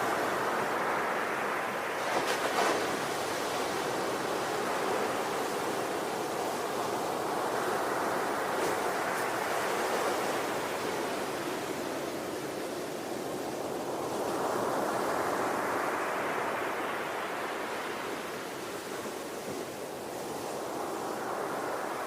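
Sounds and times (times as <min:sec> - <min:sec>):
ocean waves on shore: 0:00.0 - 0:22.0.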